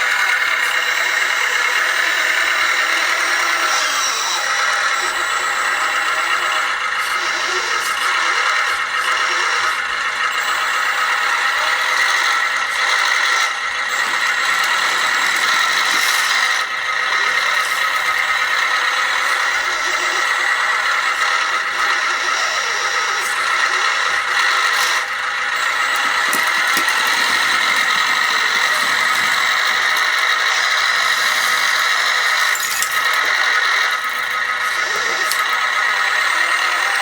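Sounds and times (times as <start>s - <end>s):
small electric motors whining: 0.0s - 37.0s.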